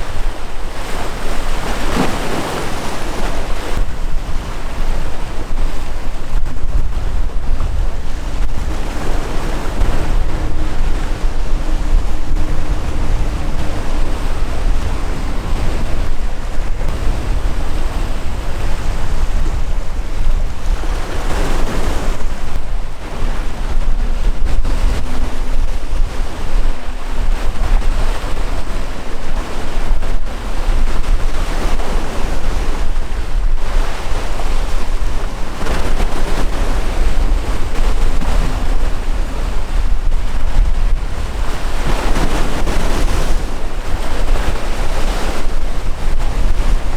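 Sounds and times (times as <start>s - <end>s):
sea waves washing: 0.0s - 46.9s
wind rumble on microphone: 0.0s - 46.9s.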